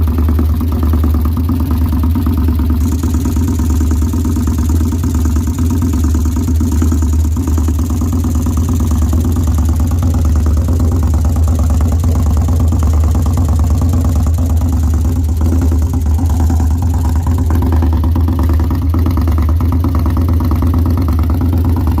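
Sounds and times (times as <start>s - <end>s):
engine knock: 0.0s - 22.0s
motorcycle engine running: 0.0s - 22.0s.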